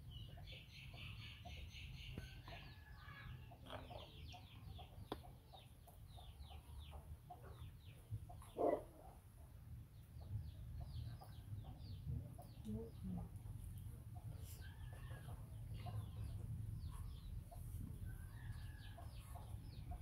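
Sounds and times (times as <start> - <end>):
birds peeping: 0.0 - 20.0.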